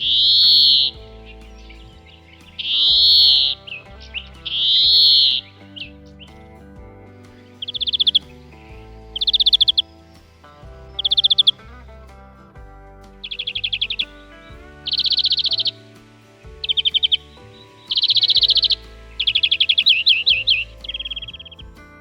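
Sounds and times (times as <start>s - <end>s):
bird trilling song: 0.0s - 12.2s, 13.0s - 22.0s.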